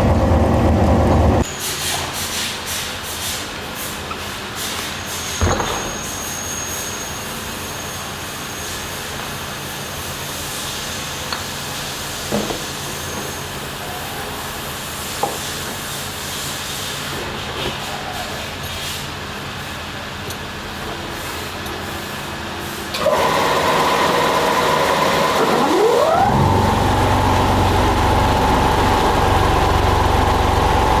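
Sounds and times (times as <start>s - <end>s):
factory machinery hum: 0.0s - 31.0s.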